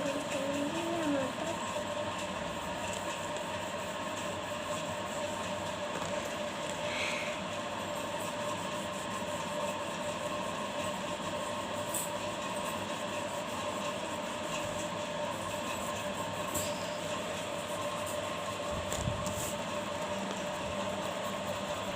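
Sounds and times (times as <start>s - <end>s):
steady mechanical drone: 0.0s - 21.9s.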